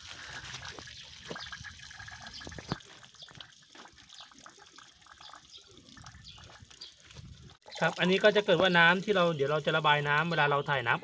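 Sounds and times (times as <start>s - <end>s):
water splashing on ground: 0.0s - 10.5s
water pouring from a pipe: 0.0s - 11.0s.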